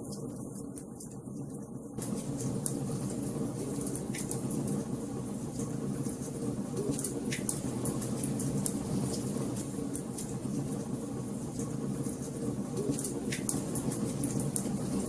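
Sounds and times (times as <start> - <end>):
wood fire crackling: 0.1 - 15.0.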